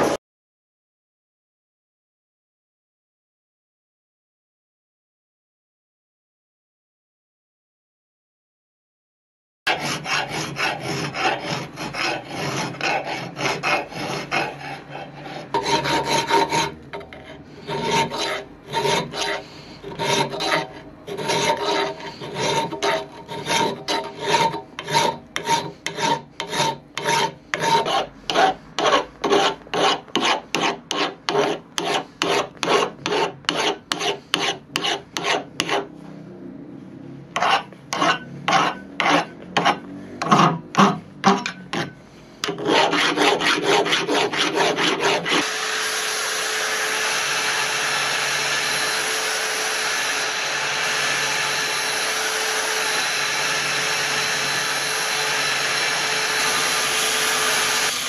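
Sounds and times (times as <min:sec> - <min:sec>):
file rasping on steel: 0:09.7 - 0:35.9, 0:37.4 - 0:58.0.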